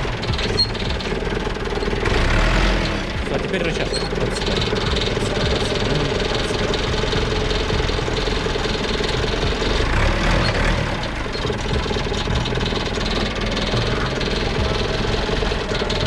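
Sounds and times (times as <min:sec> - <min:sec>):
loader engine running: 0:00.0 - 0:16.0
steady hum: 0:00.0 - 0:16.0.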